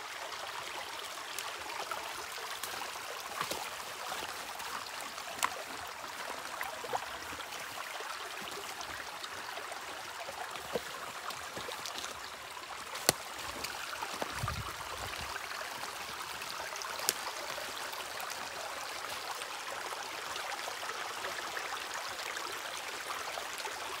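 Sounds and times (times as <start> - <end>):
creek water rushing over stones: 0.0 - 24.0.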